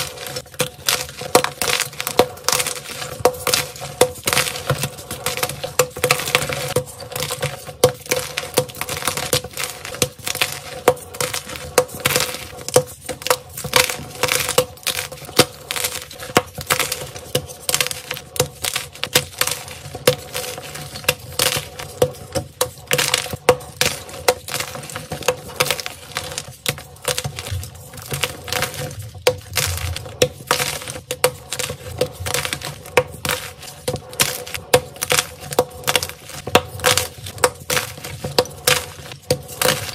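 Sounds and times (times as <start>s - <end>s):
chalk blocks cracking and crunching: 0.0s - 39.9s.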